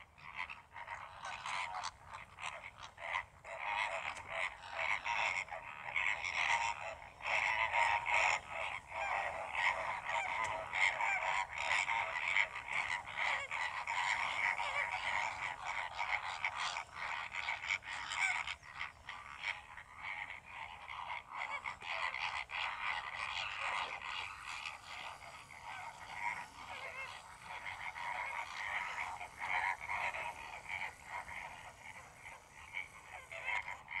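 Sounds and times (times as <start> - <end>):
flamingos croaking calls: 0.0 - 34.0.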